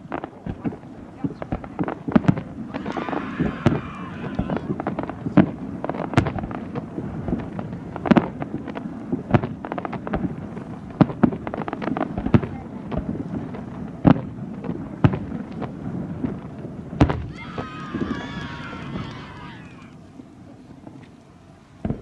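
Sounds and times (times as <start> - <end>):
fireworks bursting with loud bangs: 0.0 - 22.0
fireworks crackling: 0.0 - 22.0.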